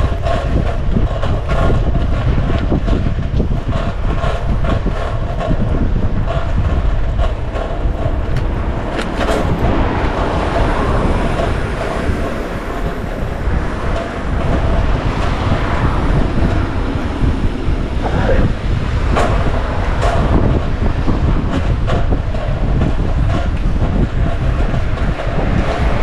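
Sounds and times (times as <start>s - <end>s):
sharp clicks and knocks: 0.0s - 26.0s
vehicle rumble: 0.0s - 26.0s.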